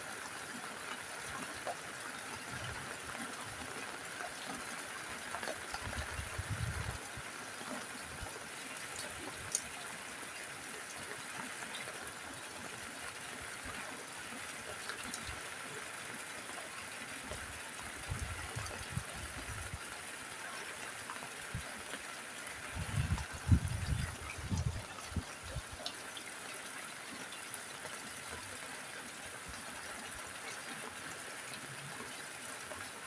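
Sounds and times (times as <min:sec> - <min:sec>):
rain on a roof: 0:00.0 - 0:33.0.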